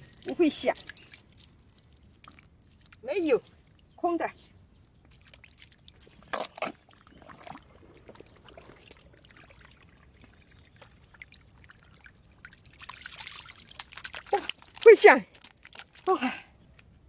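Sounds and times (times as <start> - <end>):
wet mud squelching: 0.0 - 16.9
water trickling and dripping: 0.0 - 17.0.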